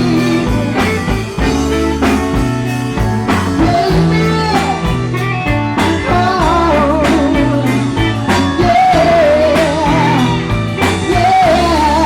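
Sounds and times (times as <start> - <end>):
bass notes: 0.0 - 12.0.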